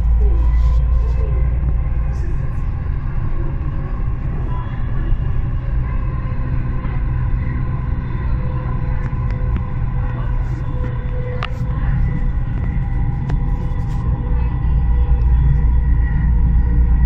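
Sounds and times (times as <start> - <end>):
faint steady tones: 0.0 - 17.0
train rumble inside car: 0.0 - 17.0.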